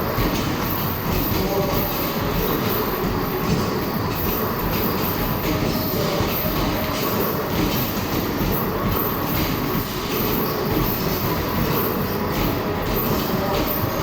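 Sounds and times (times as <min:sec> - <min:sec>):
basketballs rolling and clattering: 0:00.0 - 0:14.0.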